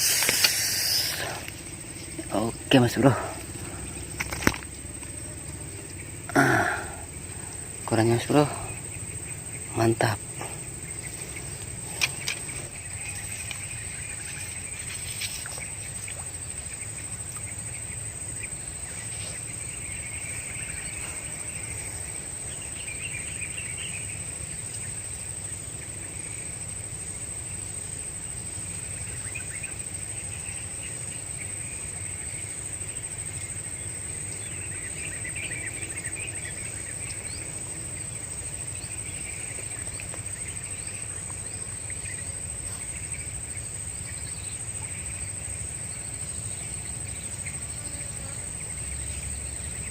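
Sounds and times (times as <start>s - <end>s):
insects chirping: 0.0s - 49.9s
insects droning: 0.0s - 49.9s.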